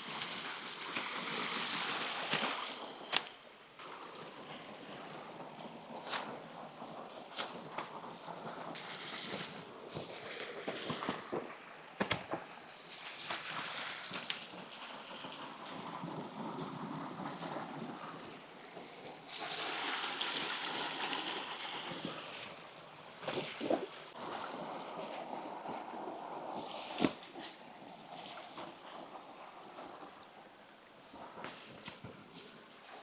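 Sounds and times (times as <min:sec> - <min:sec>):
stream water running: 0:00.0 - 0:33.0.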